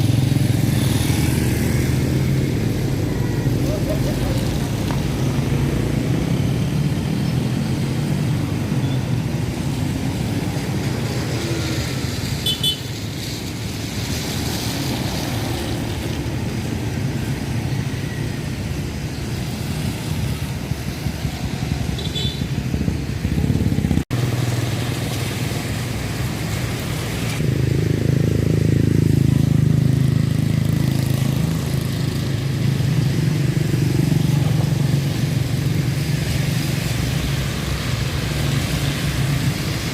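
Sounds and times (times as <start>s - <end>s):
motorcycle and car engines passing: 0.0s - 39.9s.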